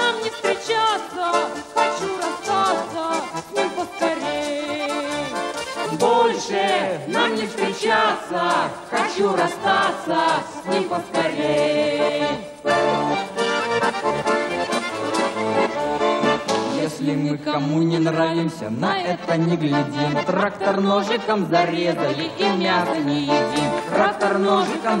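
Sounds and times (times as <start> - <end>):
button accordion playing: 0.0 - 25.0.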